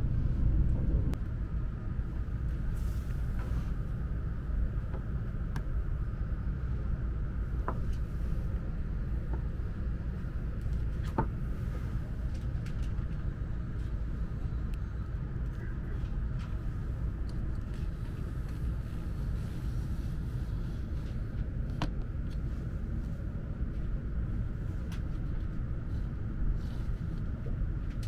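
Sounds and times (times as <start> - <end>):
train cabin hum: 0.0 - 28.0.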